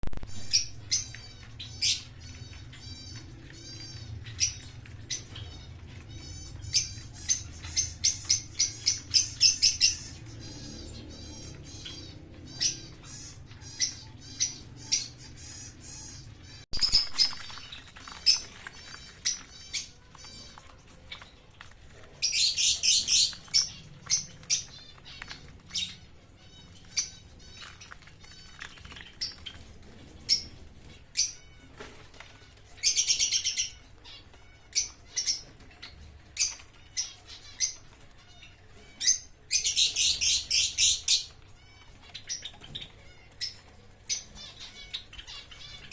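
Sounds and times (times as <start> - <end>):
pet birds chirping: 0.0 - 45.9
rapid chattering bird calls: 0.2 - 45.9.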